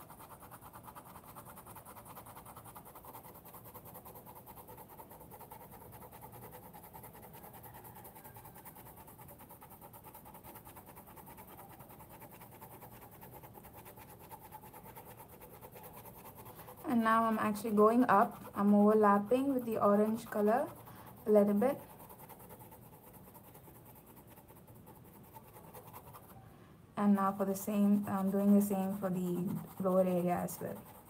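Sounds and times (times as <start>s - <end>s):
pencil scratching on paper: 0.0s - 26.4s, 27.0s - 31.0s.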